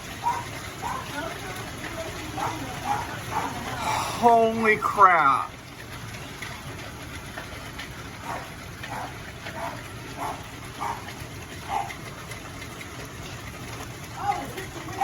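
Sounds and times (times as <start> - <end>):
hail pelting down: 0.0 - 15.0.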